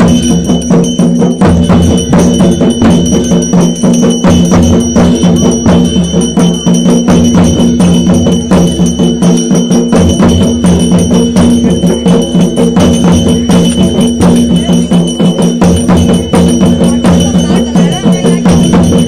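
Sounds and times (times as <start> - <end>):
percussion steady beat: 0.0 - 19.0.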